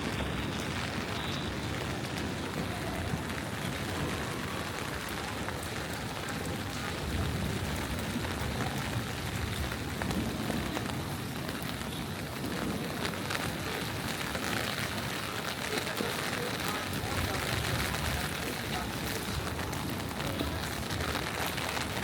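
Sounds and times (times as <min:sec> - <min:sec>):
rain falling on street: 0:00.0 - 0:22.0
raindrops ticking: 0:00.0 - 0:22.0.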